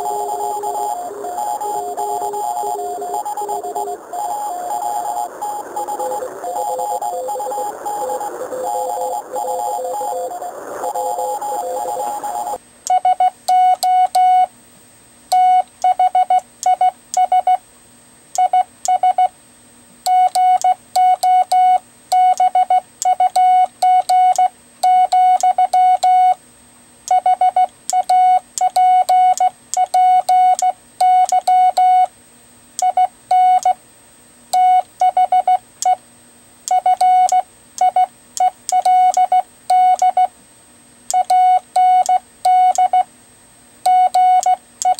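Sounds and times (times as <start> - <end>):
morse code beeps: 0.0 - 14.5, 15.3 - 17.6, 20.1 - 26.4, 27.1 - 32.1, 32.8 - 33.8, 34.6 - 36.0, 36.7 - 40.3, 41.1 - 43.1, 43.9 - 44.9.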